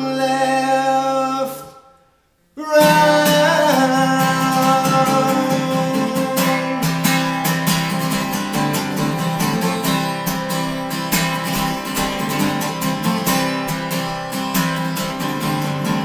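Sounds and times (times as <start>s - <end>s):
acoustic guitar strumming chords: 2.6s - 16.0s.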